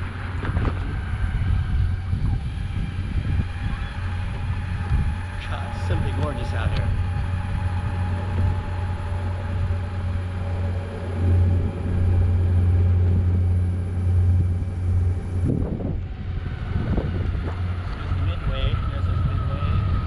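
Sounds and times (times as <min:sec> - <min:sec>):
electric drive whine: 0:00.0 - 0:20.0
wind on microphone: 0:00.0 - 0:20.0.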